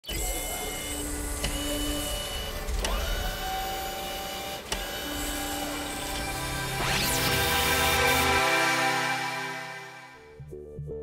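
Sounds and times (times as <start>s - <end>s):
machine whir: 0.0s - 10.2s
rising whine: 0.5s - 10.4s.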